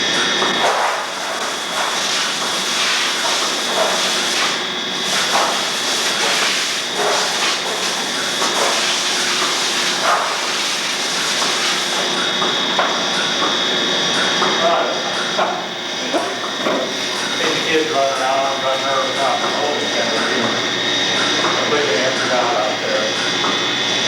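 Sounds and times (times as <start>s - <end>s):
milking machine vacuum hiss: 0.0s - 24.0s.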